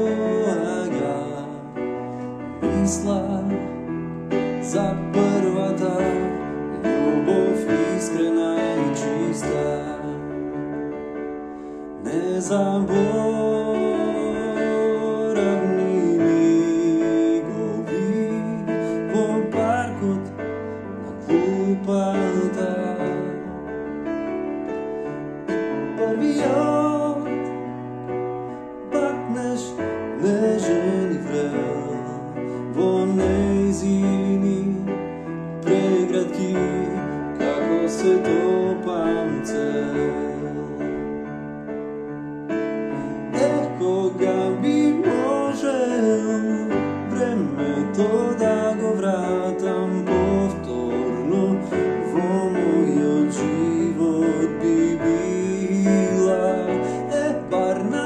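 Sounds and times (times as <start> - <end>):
man singing: 0.0 - 24.1, 25.0 - 41.4, 42.8 - 58.0
electronic keyboard chords: 0.0 - 58.0.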